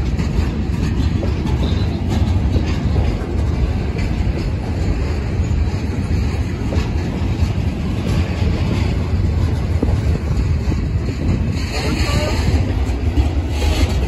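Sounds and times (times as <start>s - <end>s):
clicks and clacks: 0.0s - 14.0s
train wheels rumbling on rails: 0.0s - 14.0s.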